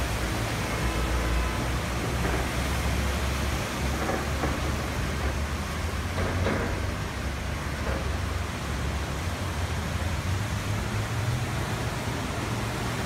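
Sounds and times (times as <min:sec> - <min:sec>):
rain on a flooded street: 0:00.0 - 0:13.0.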